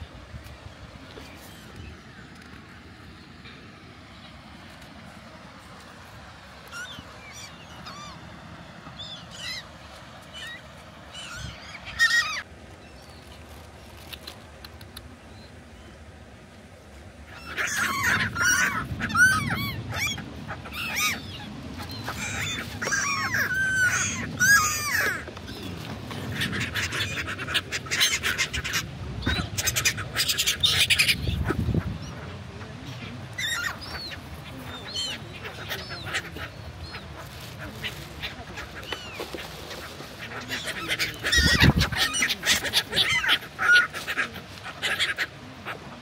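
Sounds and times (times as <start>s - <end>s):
gulls calling: 0.0s - 13.2s, 17.2s - 46.0s.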